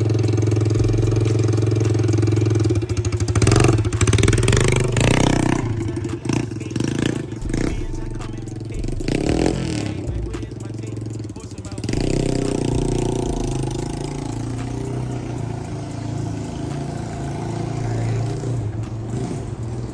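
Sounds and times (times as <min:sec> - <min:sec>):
motorbike engine idling and revving: 0:00.0 - 0:19.9.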